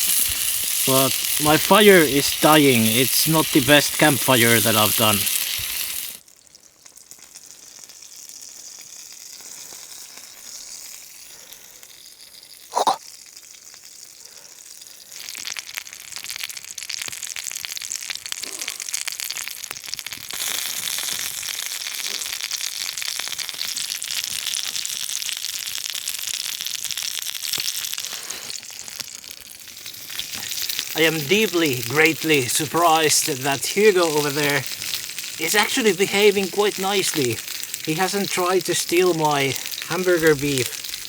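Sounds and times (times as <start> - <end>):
burger patties sizzling: 0.0 - 14.0, 14.8 - 41.0.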